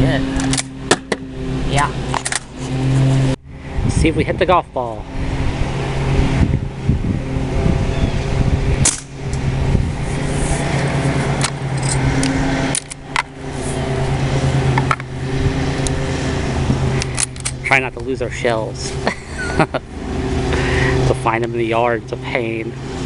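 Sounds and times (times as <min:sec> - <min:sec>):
motor hum: 0:00.0 - 0:23.0.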